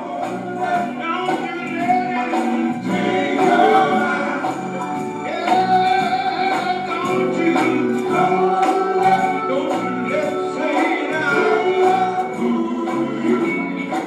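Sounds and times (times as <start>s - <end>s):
choir singing gospel: 0.0s - 14.0s
steady beat: 0.0s - 14.0s.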